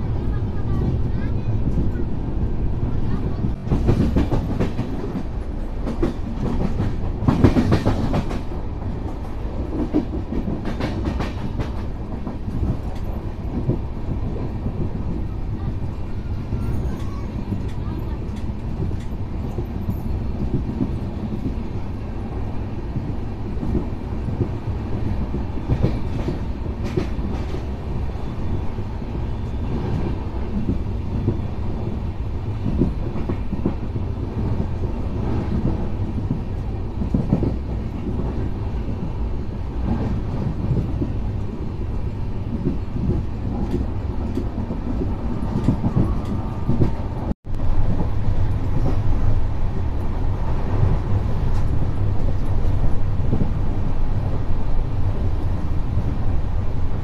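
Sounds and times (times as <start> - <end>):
train rumble and rattle: 0.0 - 57.0.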